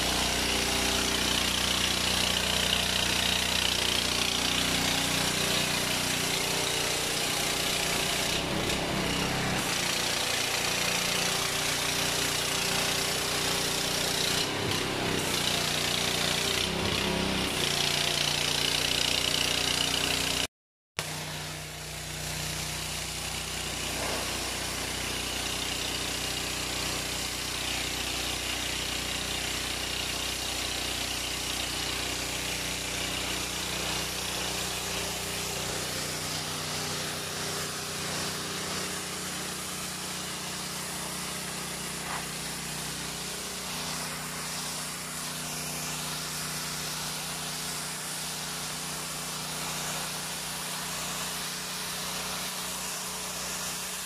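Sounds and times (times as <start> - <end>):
small engine humming: 0.0 - 27.2, 30.9 - 54.0
water jet hissing on concrete: 0.0 - 54.0.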